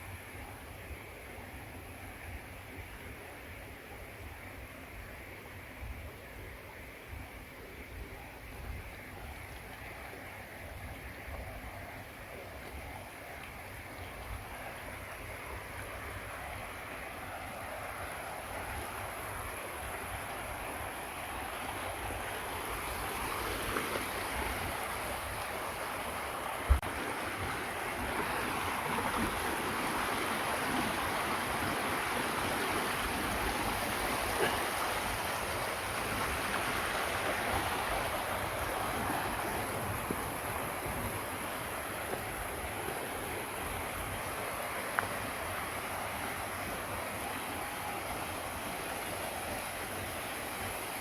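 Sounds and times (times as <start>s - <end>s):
flowing water rushing: 0.0s - 51.0s.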